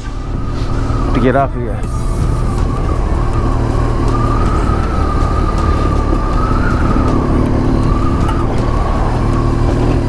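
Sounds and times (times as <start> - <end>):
motorcycle engine rumbling: 0.0 - 10.0
thin steady whine: 0.0 - 10.0
wind rush: 0.0 - 10.0.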